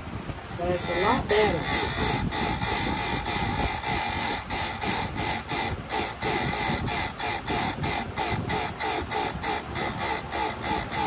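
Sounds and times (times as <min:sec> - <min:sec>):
electric chain sharpener grinding: 0:00.5 - 0:11.0.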